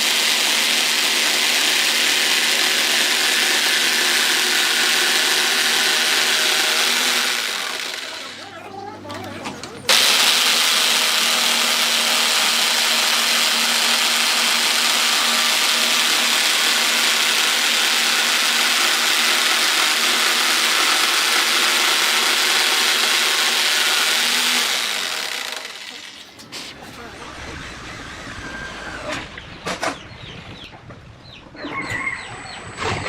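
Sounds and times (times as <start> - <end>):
power tool running: 0.0 - 9.3, 9.9 - 29.2.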